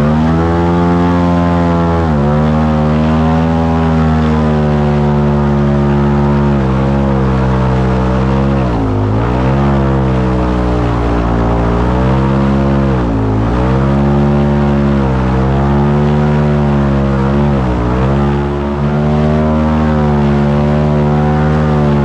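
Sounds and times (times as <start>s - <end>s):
airboat engine and propeller drone: 0.0s - 22.0s.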